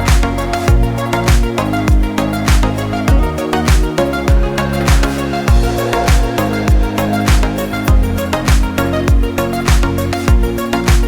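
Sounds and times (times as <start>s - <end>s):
sustained synth chords: 0.0s - 11.0s
kick drum thumping: 0.1s - 11.0s.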